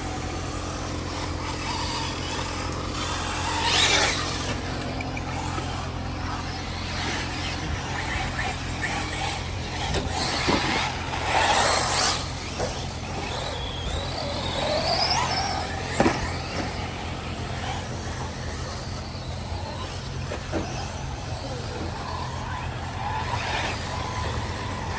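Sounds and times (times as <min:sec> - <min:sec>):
electric motor whine: 0:00.0 - 0:24.9
steady low hum: 0:00.0 - 0:24.9.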